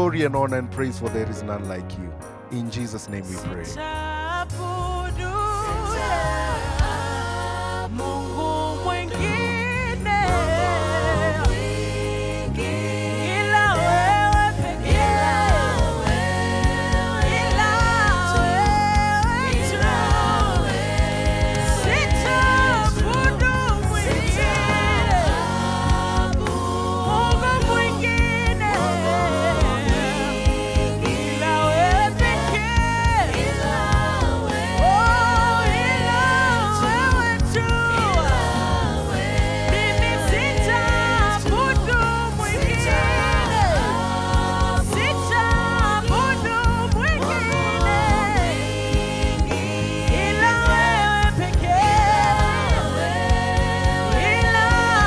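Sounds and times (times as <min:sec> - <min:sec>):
gospel singing voice: 0:00.0 - 0:55.0
band with steady beat: 0:10.3 - 0:55.0.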